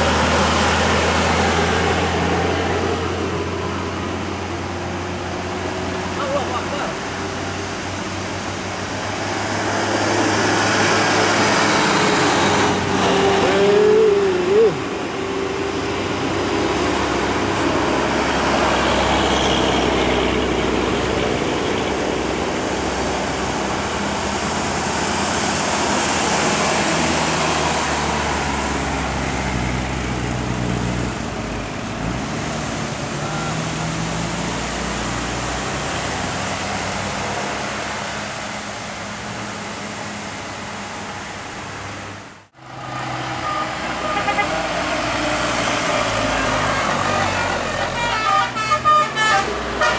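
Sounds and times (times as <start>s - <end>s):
vehicle engines running: 0.0s - 49.9s.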